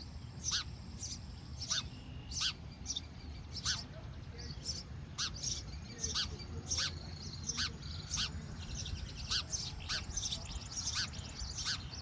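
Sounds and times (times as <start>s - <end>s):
baby birds chirping: 0.0s - 12.0s.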